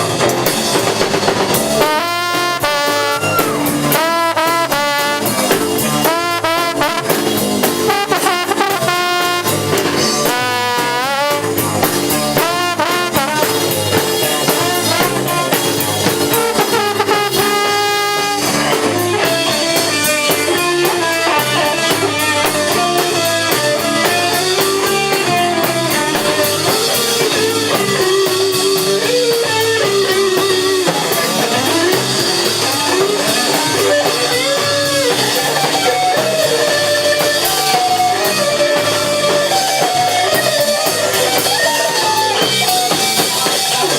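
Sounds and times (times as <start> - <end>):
live band playing: 0.0 - 43.9.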